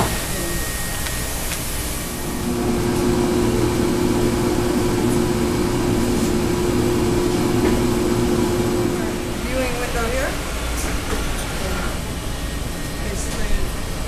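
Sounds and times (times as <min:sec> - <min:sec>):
machine motor humming: 0:00.0 - 0:13.6.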